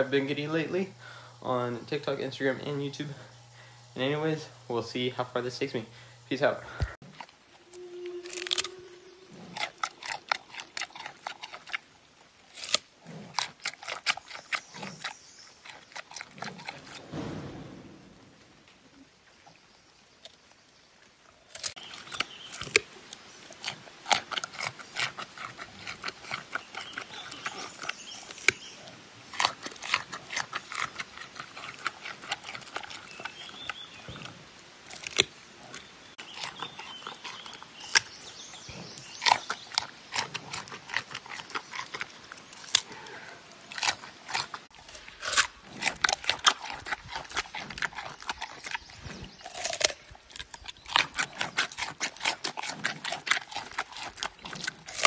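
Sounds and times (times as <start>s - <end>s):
panda chewing carrot crunches: 6.4s - 17.6s, 21.4s - 55.0s.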